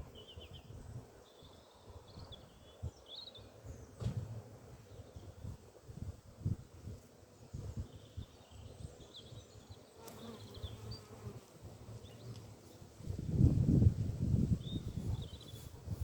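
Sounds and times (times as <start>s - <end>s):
bees buzzing faintly: 0.0s - 16.0s.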